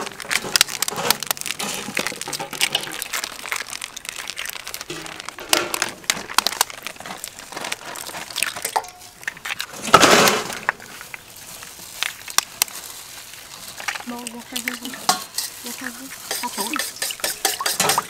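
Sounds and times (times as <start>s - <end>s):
eggshells cracking: 0.0s - 18.0s.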